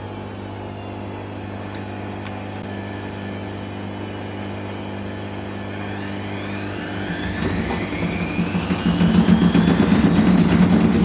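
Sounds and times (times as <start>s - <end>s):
washing machine drum droning: 0.0s - 11.0s.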